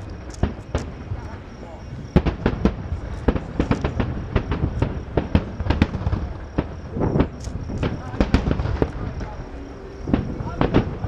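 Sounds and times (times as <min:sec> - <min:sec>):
rumble of distant explosions: 0:00.0 - 0:11.0.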